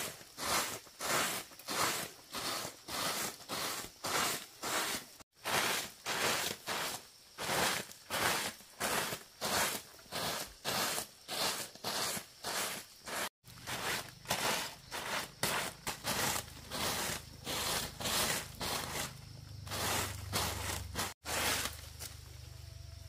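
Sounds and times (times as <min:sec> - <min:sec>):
rustling scraping strokes: 0:00.0 - 0:22.2.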